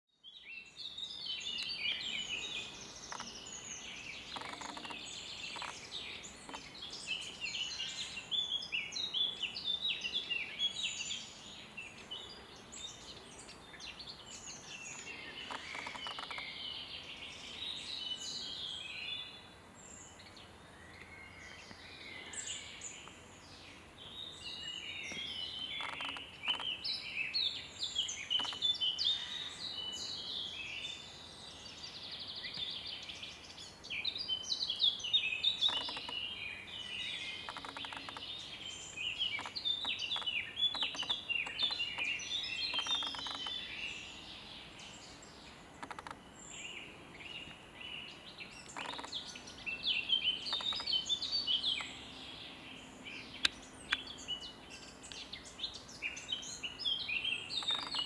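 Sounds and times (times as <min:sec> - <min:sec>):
songbirds singing: 0:00.1 - 0:58.0.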